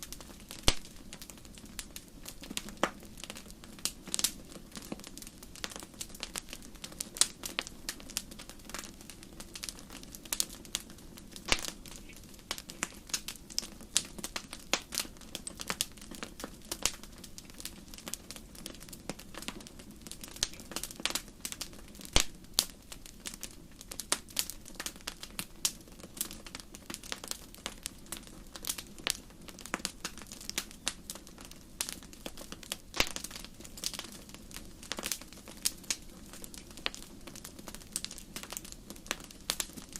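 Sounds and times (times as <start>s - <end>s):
campfire crackling and popping: 0.0s - 39.9s
soft steady hiss: 0.0s - 39.9s.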